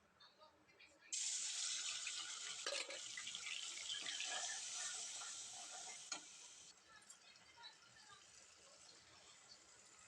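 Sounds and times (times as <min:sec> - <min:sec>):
food sizzling in hot oil: 0:01.2 - 0:10.0.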